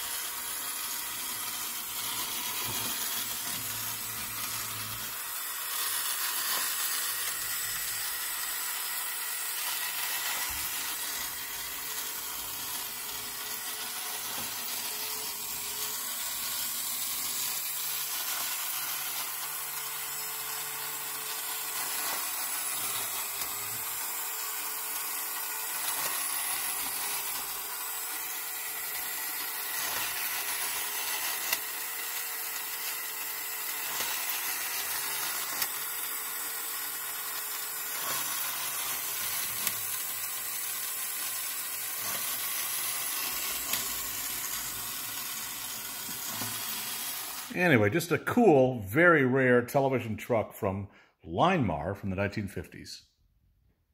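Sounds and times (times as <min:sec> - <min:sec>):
toy electric motor whirring: 0:00.0 - 0:48.1.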